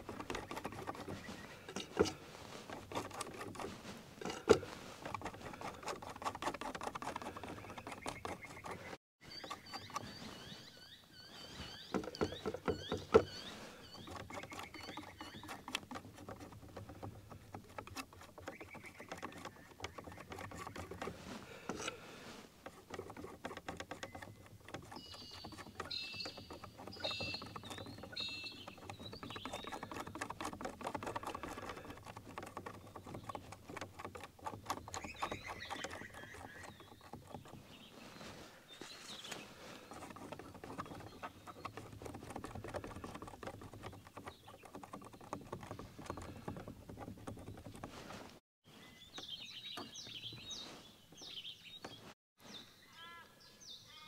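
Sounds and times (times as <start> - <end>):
palette knife scraping canvas: 0.0 - 10.8, 11.4 - 48.4.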